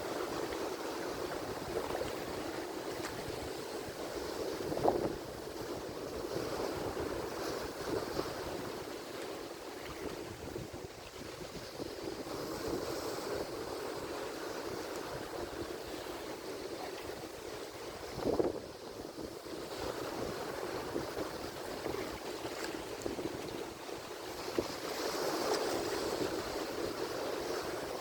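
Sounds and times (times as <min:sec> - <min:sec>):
ocean surf washing on shore: 0:00.0 - 0:28.0.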